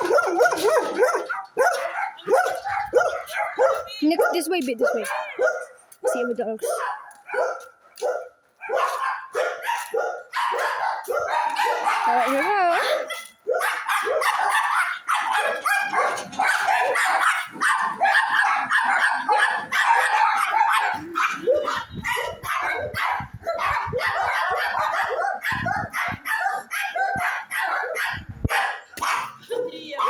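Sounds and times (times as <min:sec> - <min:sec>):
dogs barking and yipping: 0:00.0 - 0:30.0.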